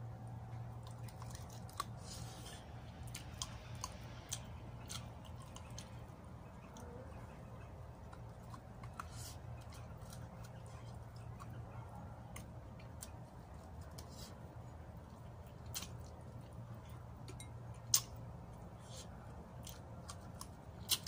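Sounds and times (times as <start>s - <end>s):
steady low hum: 0.0s - 21.0s
chewing and mouth smacks: 0.4s - 7.0s, 7.6s - 21.0s.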